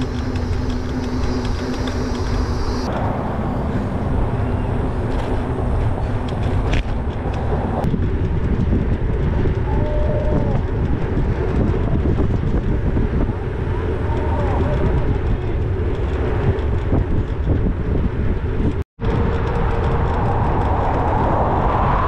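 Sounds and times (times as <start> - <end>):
bicycle tyres rolling on asphalt: 0.0 - 22.0
wind rushing over microphone: 0.0 - 22.0.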